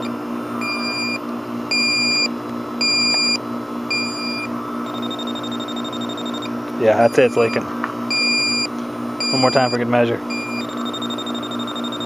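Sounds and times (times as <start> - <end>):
leak detector beeps: 0.0 - 12.0
leak detector high tone: 0.0 - 12.0.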